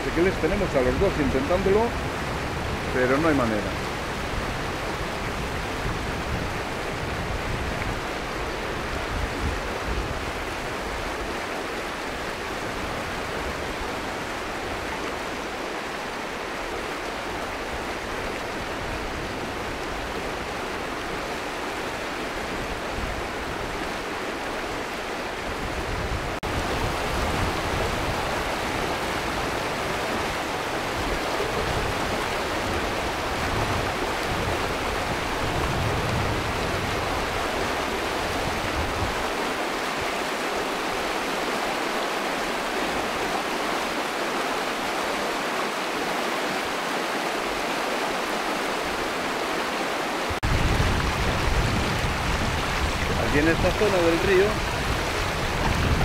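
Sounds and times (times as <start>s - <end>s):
river water rushing over stones: 0.0s - 56.0s.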